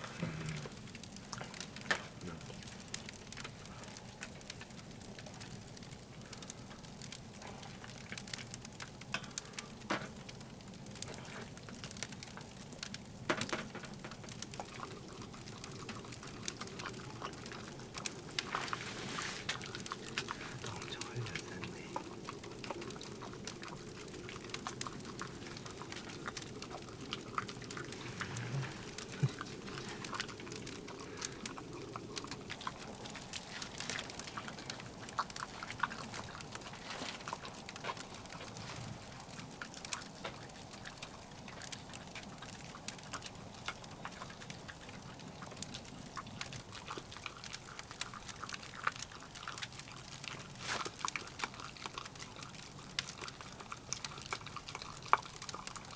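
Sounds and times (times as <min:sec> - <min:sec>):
firewood crackling in stove: 0:00.0 - 0:55.9.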